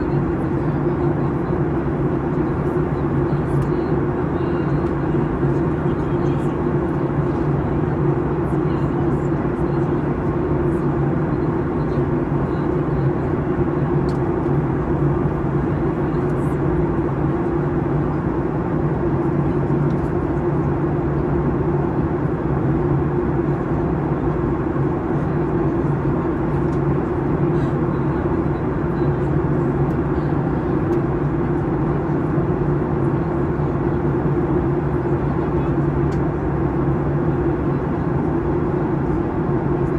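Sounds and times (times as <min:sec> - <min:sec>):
constant low hum: 0:00.0 - 0:39.9
jet airliner cabin noise: 0:00.0 - 0:39.9.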